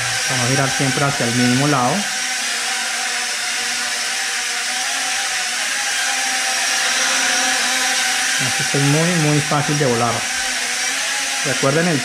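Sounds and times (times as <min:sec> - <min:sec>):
toy drone propellers whining: 0:00.0 - 0:12.0.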